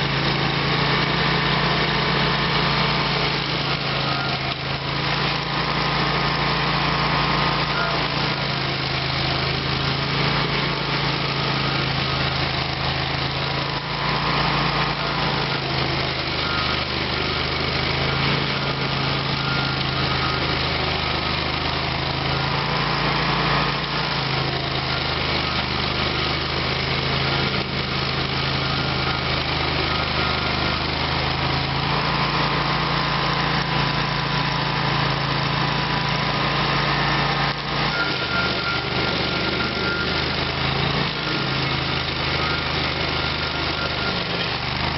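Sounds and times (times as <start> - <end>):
stump grinder engine running: 0.0 - 44.9.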